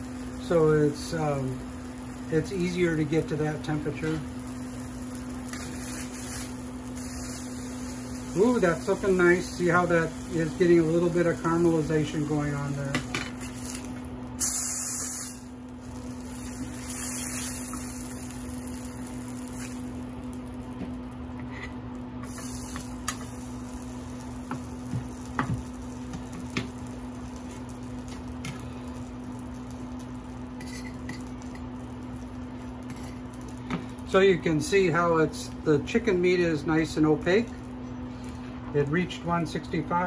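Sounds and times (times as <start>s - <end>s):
chicken sizzling in oil: 0.0s - 39.2s.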